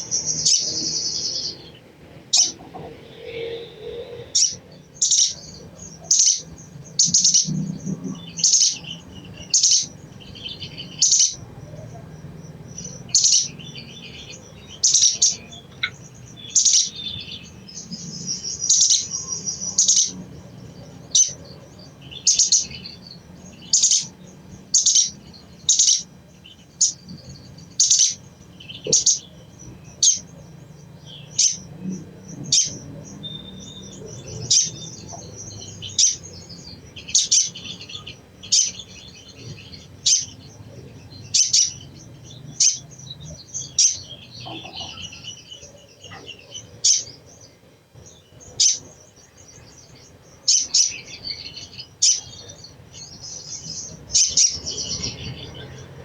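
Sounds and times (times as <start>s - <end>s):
bird chattering: 0.0s - 56.0s.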